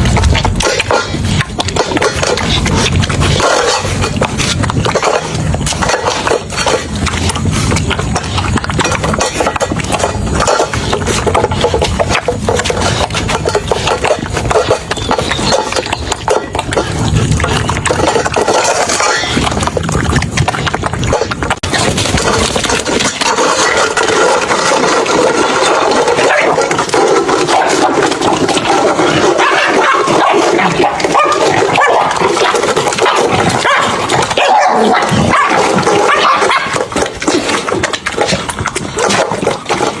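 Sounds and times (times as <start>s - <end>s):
animal noises: 0.0s - 40.0s
puppy and piglet scuffling: 0.0s - 40.0s.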